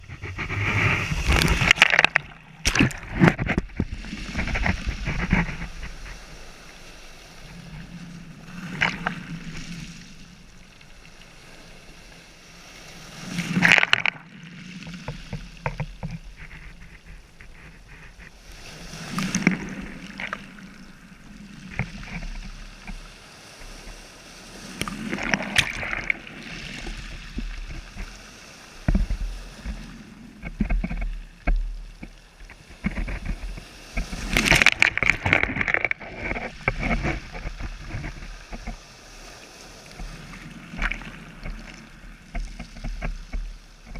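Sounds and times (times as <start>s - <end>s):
sea waves washing in: 0.0s - 43.9s.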